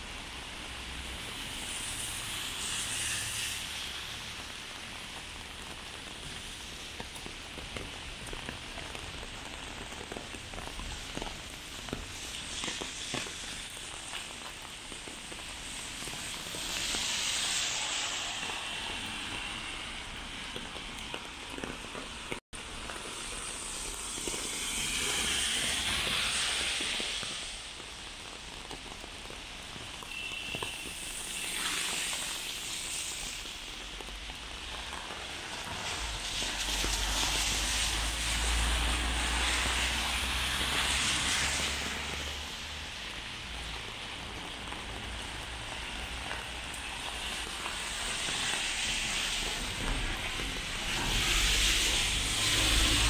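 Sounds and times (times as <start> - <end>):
car tyres hissing on wet road: 0.0 - 53.0
rain: 0.0 - 53.0.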